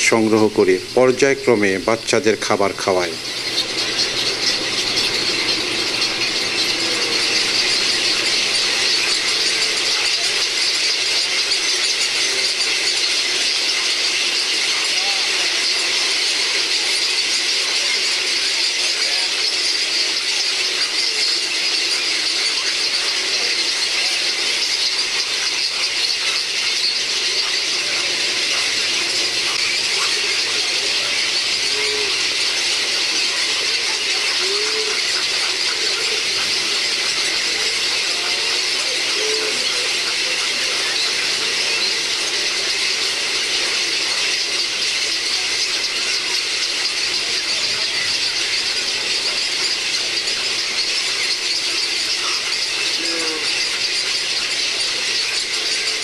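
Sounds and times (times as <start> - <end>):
birds chattering and squealing: 0.0 - 56.0.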